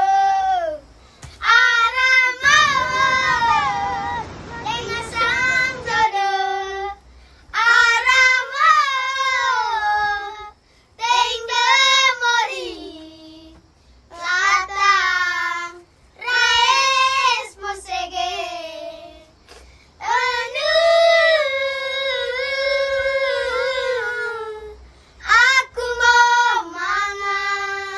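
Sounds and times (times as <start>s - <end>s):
child singing: 0.0s - 19.4s, 20.0s - 27.9s.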